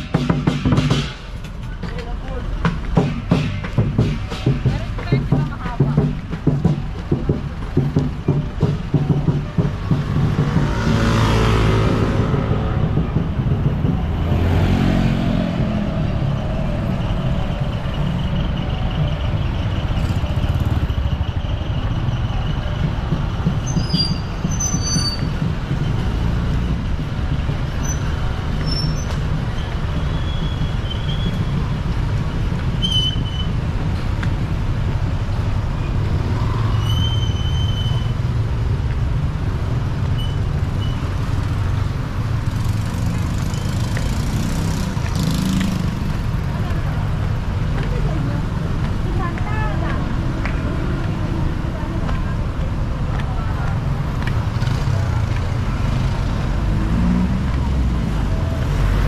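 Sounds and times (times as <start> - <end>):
traffic rumble: 0.0 - 59.0
vehicles passing close by: 0.0 - 59.0.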